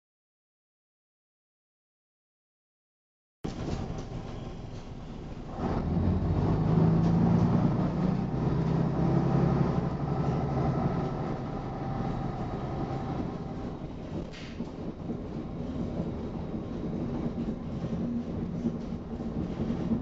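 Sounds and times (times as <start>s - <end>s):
bus diesel engine running: 3.5s - 20.0s.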